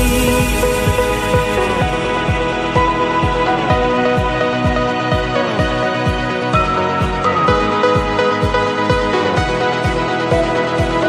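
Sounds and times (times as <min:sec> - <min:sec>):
electronic music with kick drum: 0:00.0 - 0:11.0
sustained synth chords: 0:00.0 - 0:11.0.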